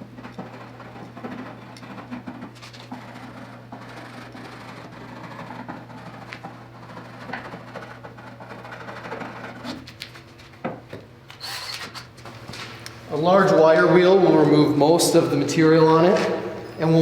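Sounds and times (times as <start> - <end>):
steady low hum: 0.0 - 11.4, 12.1 - 17.0.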